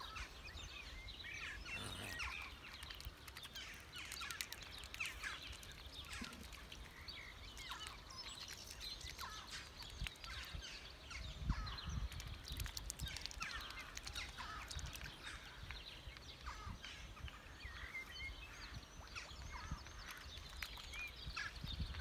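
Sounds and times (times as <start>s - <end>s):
birds chirping and peeping: 0.0s - 22.0s.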